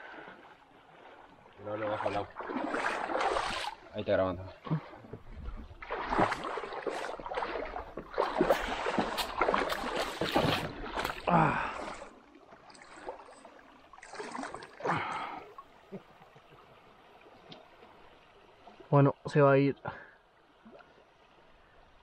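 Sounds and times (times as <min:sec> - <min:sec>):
river water splashing: 0:00.0 - 0:22.0.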